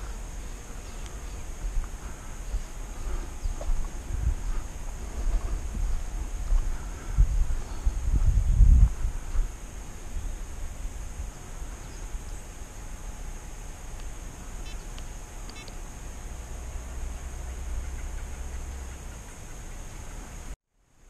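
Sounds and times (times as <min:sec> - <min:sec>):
wind rumbling on microphone: 0:00.0 - 0:20.6
steady high-pitched hum: 0:00.0 - 0:21.0.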